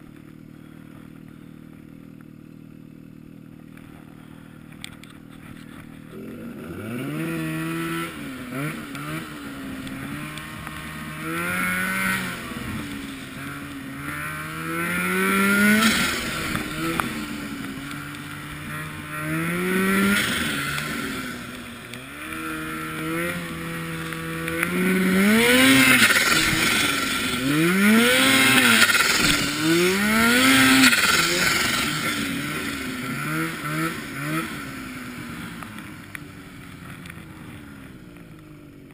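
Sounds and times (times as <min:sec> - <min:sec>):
snowmobile engine revving: 0:03.6 - 0:38.4.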